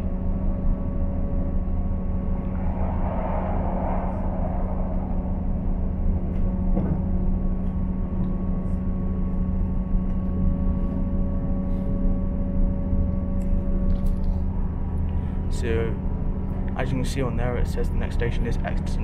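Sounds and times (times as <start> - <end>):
train cabin drone and rumble: 0.0 - 19.0.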